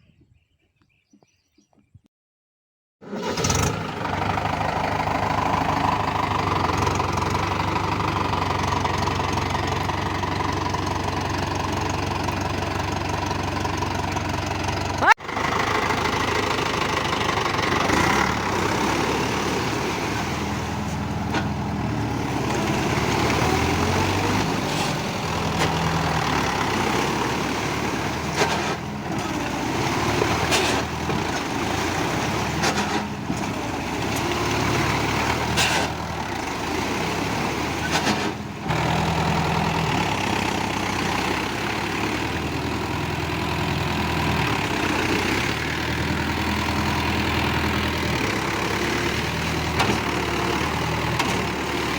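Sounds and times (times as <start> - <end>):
tractor diesel engine running: 3.0 - 51.9.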